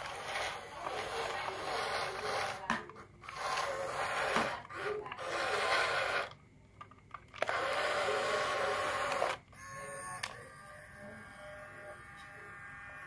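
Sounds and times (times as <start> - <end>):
small electric motor running: 0.0 - 6.3, 7.4 - 13.0
soft steady hum: 0.0 - 13.0.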